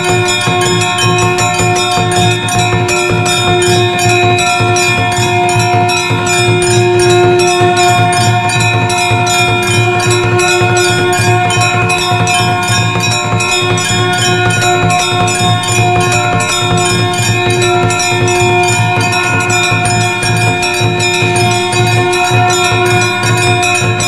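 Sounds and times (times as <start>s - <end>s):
ringing bell tones: 0.0s - 24.0s
temple bells rung rapidly: 0.0s - 24.0s.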